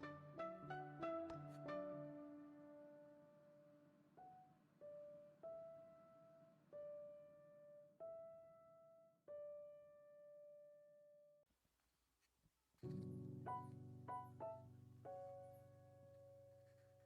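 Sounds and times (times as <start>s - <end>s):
slow piano notes: 0.0s - 11.0s, 12.8s - 17.0s.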